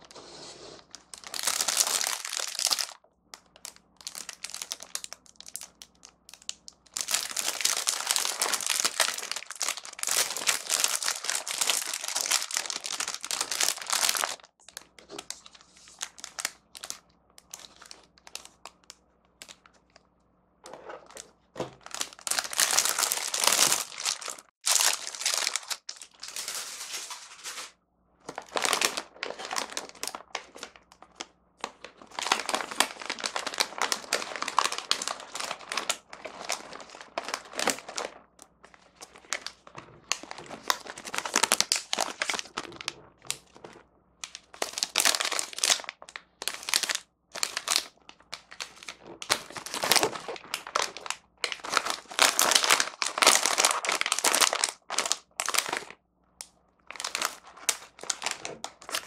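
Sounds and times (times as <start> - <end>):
plastic packaging crinkling: 0.0 - 20.0, 20.8 - 56.0, 56.9 - 59.0.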